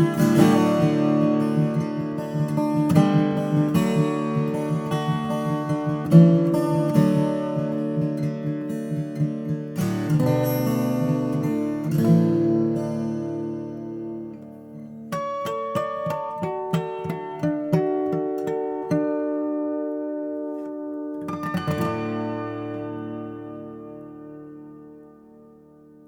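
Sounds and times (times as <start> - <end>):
twelve-string acoustic guitar: 0.0 - 26.0.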